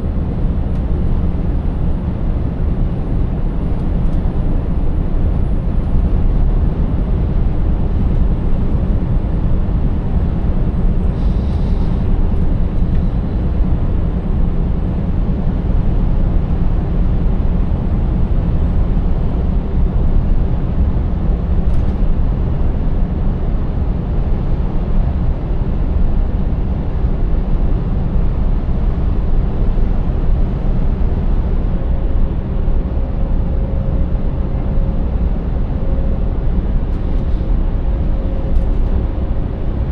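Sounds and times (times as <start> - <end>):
truck diesel engine cruising: 0.0 - 39.9.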